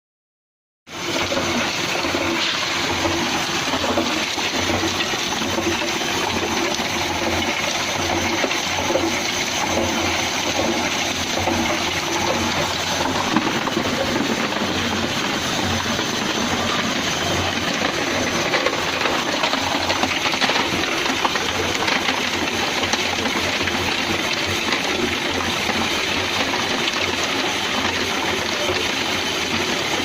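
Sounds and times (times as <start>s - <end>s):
circulating water rushing: 0.9s - 30.0s.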